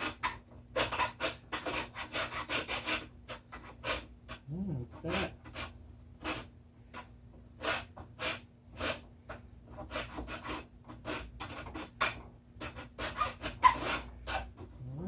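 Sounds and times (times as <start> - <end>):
file rasping against metal: 0.0 - 15.0.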